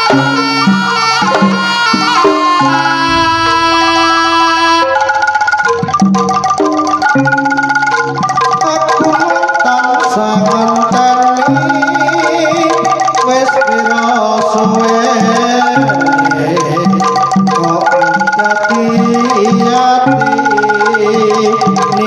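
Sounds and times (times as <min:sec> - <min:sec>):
hand drum beats: 0:00.0 - 0:22.0
metallophone melody: 0:00.0 - 0:22.0.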